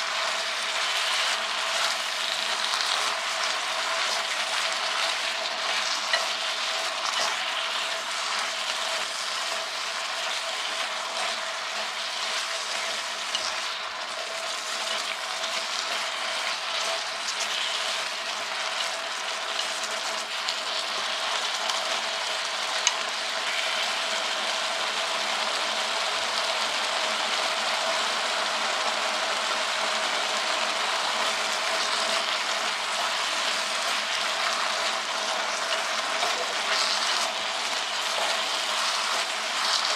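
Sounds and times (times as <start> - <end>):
food sizzling in a hot pot: 0.0 - 39.9.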